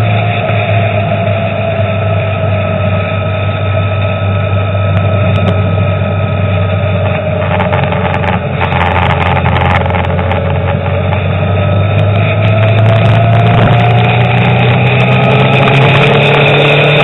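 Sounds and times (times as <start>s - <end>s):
car engine and tyre drone: 0.0s - 17.0s.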